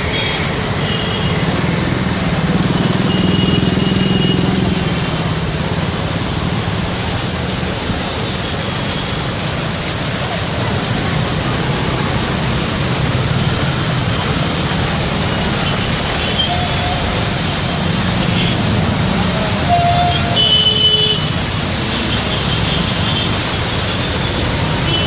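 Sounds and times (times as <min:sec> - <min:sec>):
fountain water splashing: 0:00.0 - 0:25.0
street traffic: 0:00.0 - 0:25.0.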